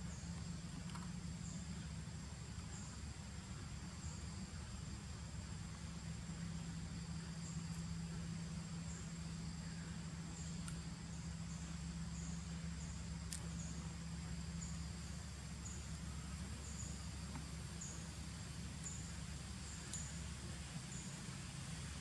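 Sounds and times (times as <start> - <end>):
insects trilling: 0.0 - 22.0
low steady hum: 0.0 - 22.0.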